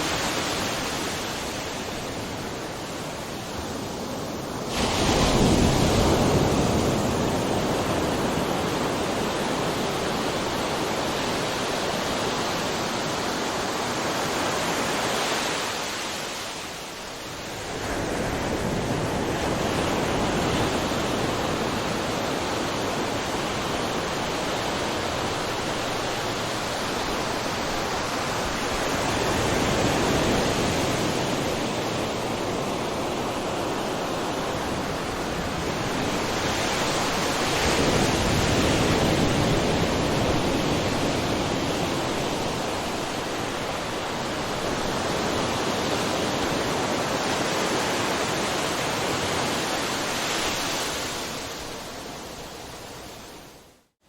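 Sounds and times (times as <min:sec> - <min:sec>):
ocean waves breaking: 0:00.0 - 0:52.6.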